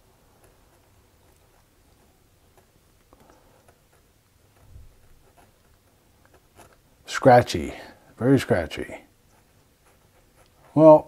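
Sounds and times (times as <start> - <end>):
pen nib scratching on paper: 0.3 - 7.6, 9.1 - 11.0.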